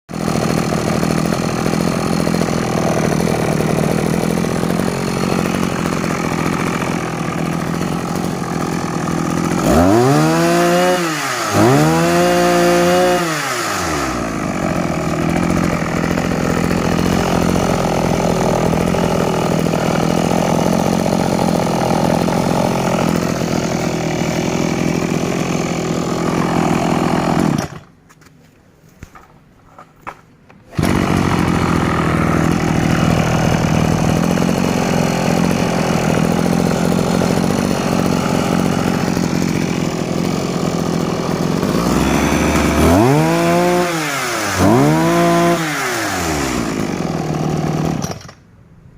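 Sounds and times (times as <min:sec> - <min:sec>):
grass cutter engine idling and revving: 0:00.1 - 0:28.0, 0:30.7 - 0:48.4.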